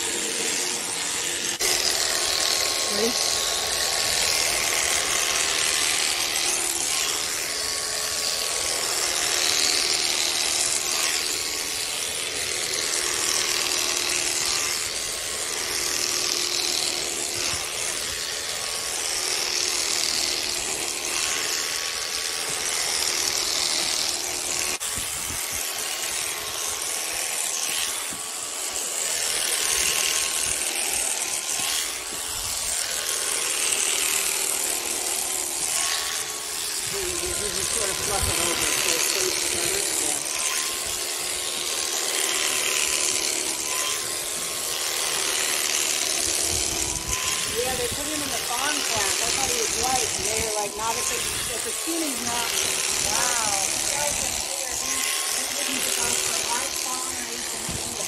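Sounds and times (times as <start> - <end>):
electric clippers cutting fleece: 0.0 - 58.0.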